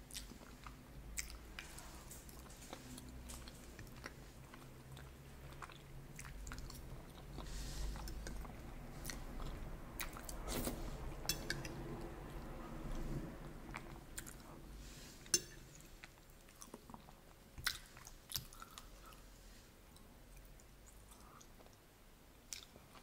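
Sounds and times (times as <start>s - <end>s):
chewing soft food: 0.0s - 23.0s.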